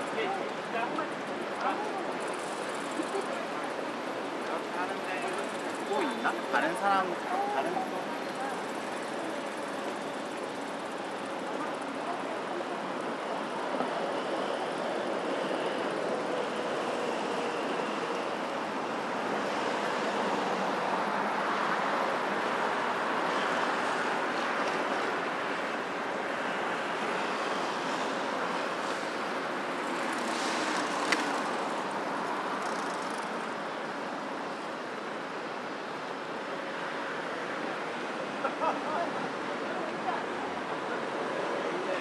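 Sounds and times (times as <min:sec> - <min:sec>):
road traffic: 0:00.0 - 0:42.0.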